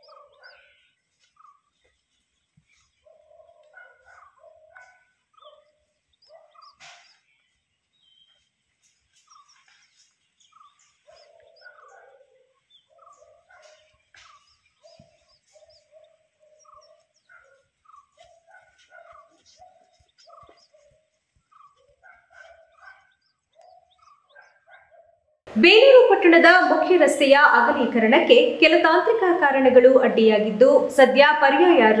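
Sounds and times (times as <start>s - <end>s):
faint birds chirping: 0.0s - 32.0s.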